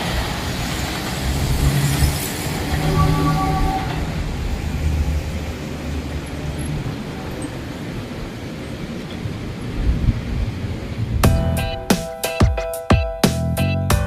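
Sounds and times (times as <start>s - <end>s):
train rumbling past: 0.0s - 12.4s.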